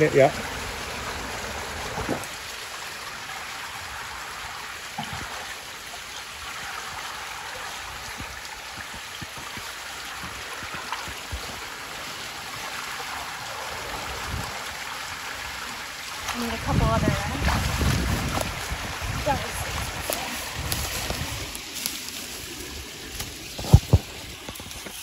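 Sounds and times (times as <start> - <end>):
creek water trickling: 0.0 - 25.0.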